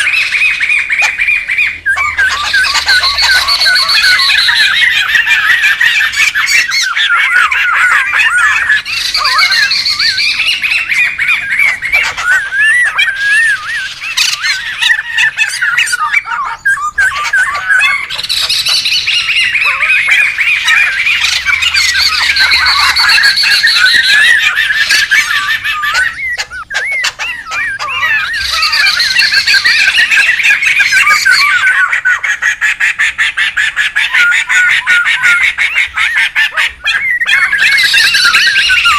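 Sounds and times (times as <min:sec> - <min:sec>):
birds chattering and squawking: 0:00.0 - 0:38.9.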